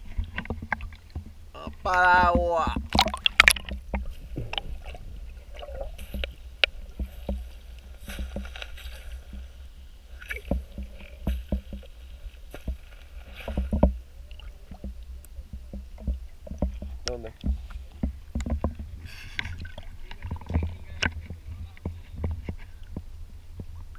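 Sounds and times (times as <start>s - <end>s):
underwater clicks and knocks: 0.0s - 9.5s, 10.2s - 23.9s
low underwater rumble: 0.0s - 23.9s.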